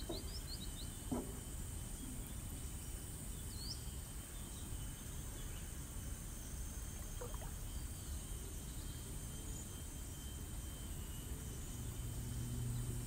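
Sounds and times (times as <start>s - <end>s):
faint high insect drone: 0.0s - 13.0s.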